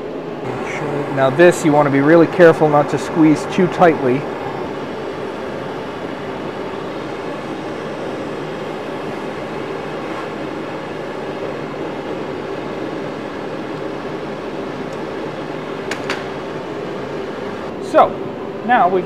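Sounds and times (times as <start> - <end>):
gas torch hissing: 0.4 - 17.7.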